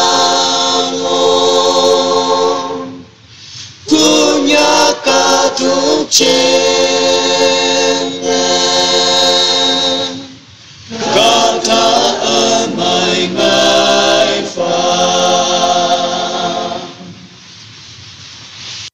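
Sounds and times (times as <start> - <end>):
group singing unaccompanied: 0.0 - 3.1, 3.8 - 17.3.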